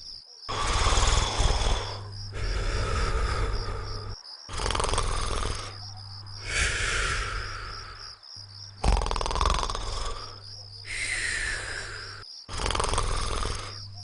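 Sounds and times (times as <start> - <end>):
cartoon character snoring: 0.5 - 8.1, 8.8 - 14.0.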